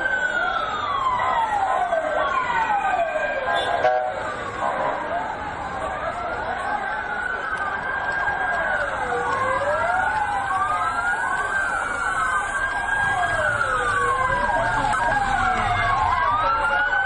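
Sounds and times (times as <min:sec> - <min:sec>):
sirens wailing: 0:00.0 - 0:17.0.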